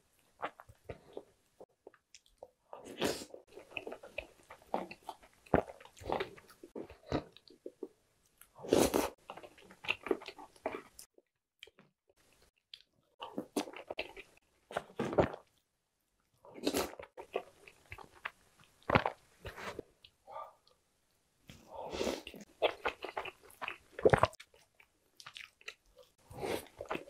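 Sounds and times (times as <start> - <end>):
close chewing with soft crunches: 0.1 - 20.8, 21.5 - 27.0.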